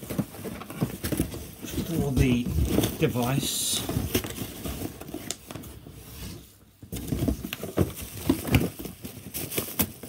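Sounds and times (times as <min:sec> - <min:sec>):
bubble wrap rustling: 0:00.0 - 0:10.0.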